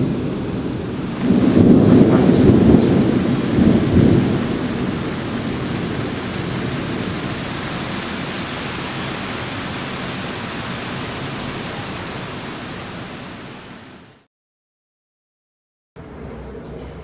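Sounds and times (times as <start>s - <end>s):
heavy rain rushing: 0.0s - 14.3s.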